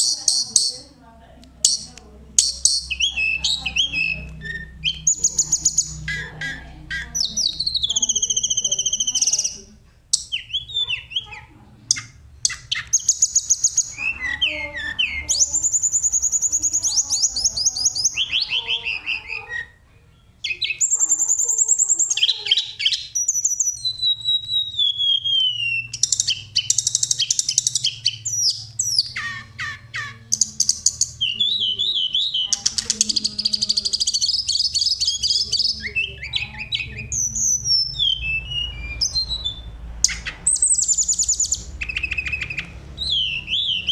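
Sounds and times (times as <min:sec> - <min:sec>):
bird song with trills and whistles: 0:00.0 - 0:01.0, 0:01.6 - 0:43.9.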